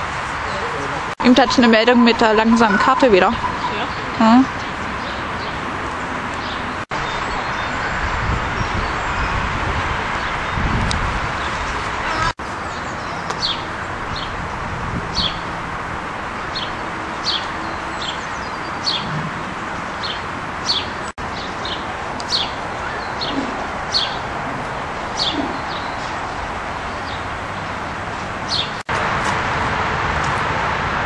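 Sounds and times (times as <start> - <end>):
outdoor background noise: 0.0 - 31.0.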